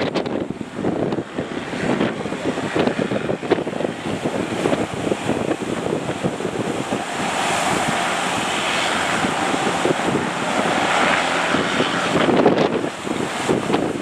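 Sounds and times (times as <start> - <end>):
breaking surf: 0.0 - 14.0
wind buffeting microphone: 0.0 - 14.0.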